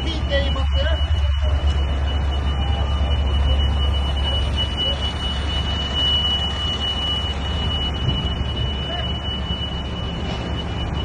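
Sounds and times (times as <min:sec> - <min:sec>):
fire trucks idling: 0:00.0 - 0:11.0
high-pitched electronic alarm tone: 0:00.0 - 0:11.0.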